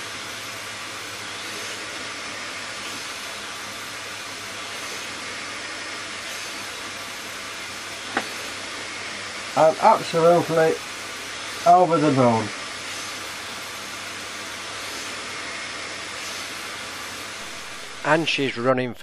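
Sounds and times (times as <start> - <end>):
vacuum cleaner running: 0.0 - 18.2.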